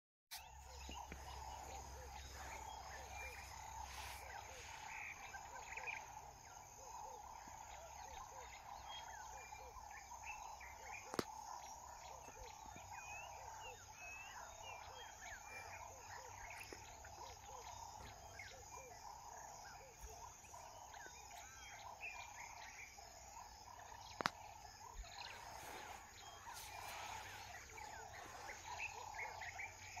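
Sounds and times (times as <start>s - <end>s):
small birds chirping: 0.3s - 30.0s
insect drone: 0.4s - 30.0s.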